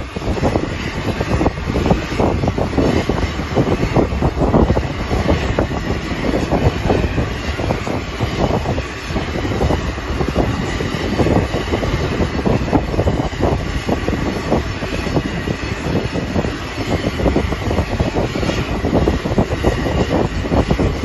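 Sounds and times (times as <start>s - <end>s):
aircraft engine noise: 0.0s - 21.0s
gusty rumble: 0.0s - 21.0s.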